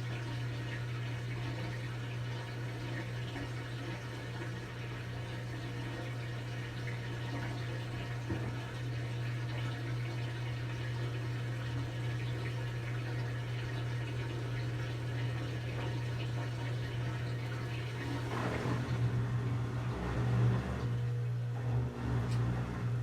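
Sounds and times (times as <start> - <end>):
washing machine water rushing: 0.0 - 23.0.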